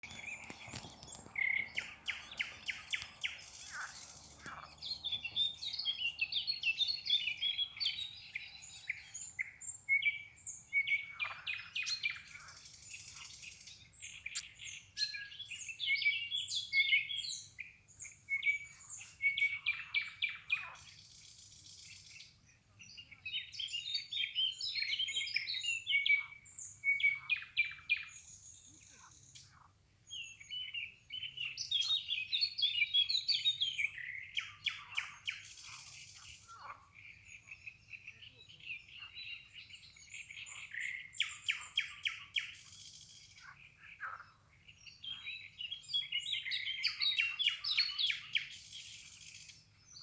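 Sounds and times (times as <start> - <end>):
songbirds chirping and singing: 0.0 - 50.0.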